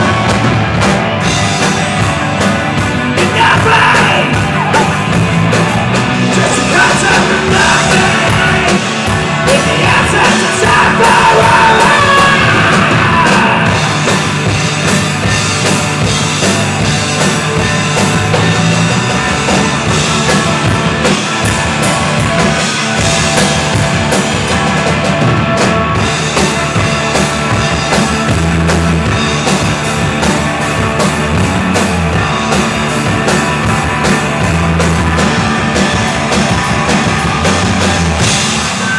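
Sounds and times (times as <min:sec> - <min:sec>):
drum kit with cymbals: 0:00.0 - 0:38.9
electric guitars: 0:00.0 - 0:38.9.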